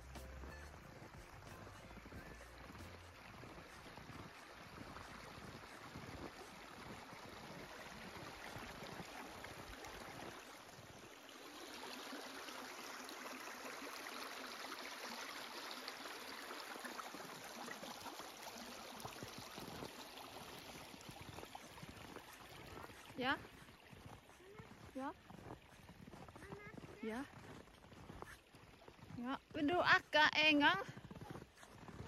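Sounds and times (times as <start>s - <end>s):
stream trickling and gurgling: 0.0s - 32.0s.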